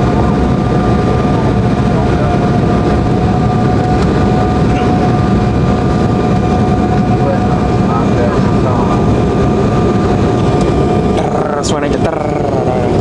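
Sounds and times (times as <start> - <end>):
high whine: 0.0 - 13.0
jet engines rumbling in cabin: 0.0 - 13.0
rushing air: 0.0 - 13.0.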